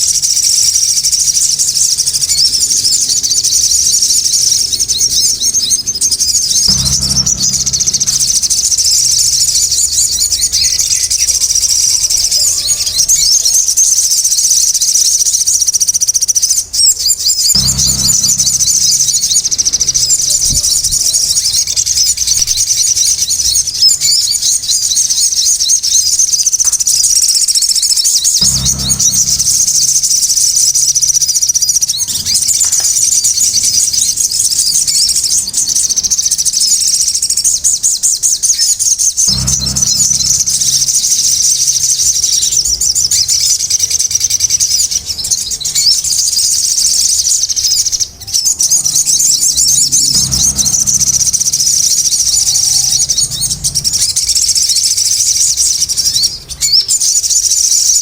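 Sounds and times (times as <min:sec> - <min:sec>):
birds chattering: 0:00.0 - 0:58.0.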